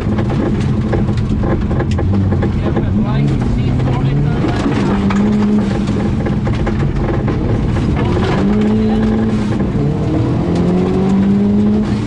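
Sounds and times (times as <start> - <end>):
rally car engine revving: 0.0 - 12.0
road and tyre noise: 0.0 - 12.0.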